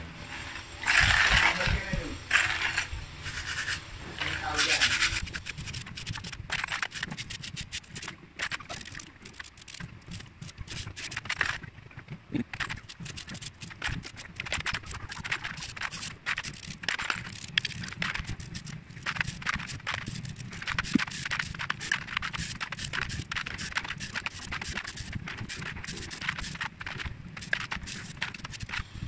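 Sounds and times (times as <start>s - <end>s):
scrub brush scratching bolts: 0.3s - 11.7s, 12.4s - 29.0s.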